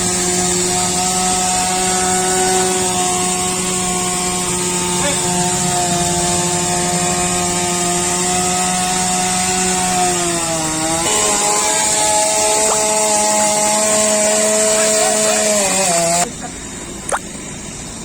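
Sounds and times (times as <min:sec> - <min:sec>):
chainsaw running at full throttle: 0:00.0 - 0:16.4.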